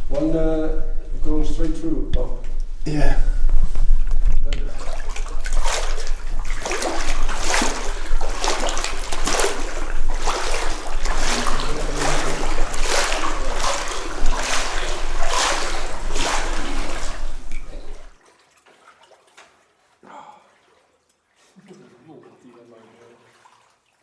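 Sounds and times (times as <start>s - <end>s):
water splashing from wading: 4.6s - 24.0s.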